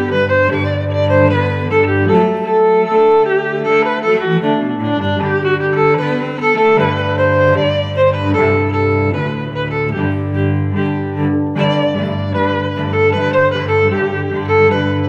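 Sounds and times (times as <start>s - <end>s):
bowed strings music: 0.0s - 15.0s.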